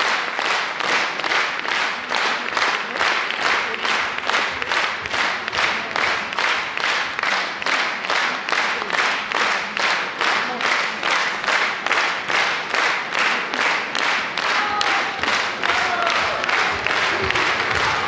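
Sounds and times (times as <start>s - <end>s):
audience clapping in unison: 0.0s - 18.0s.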